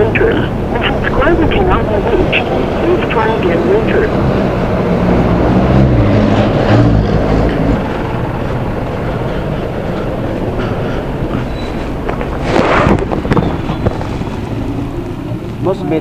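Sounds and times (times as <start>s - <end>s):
steady traffic noise: 0.0s - 16.0s
vehicle engine running close: 0.0s - 16.0s.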